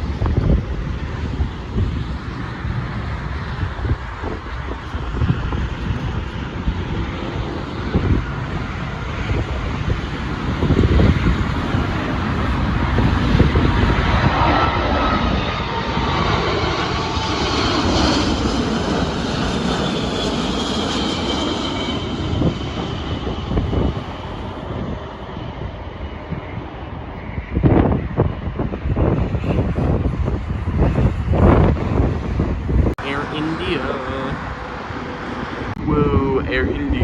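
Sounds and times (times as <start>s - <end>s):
jet airliner passing: 0.0s - 37.0s.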